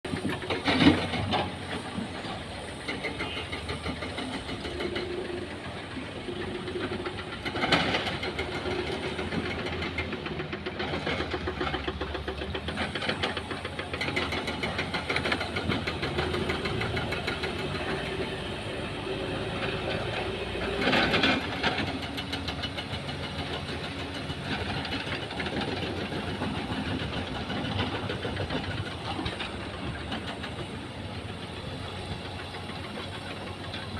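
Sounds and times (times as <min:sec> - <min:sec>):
heavy diesel engines clattering: 0:00.0 - 0:33.9.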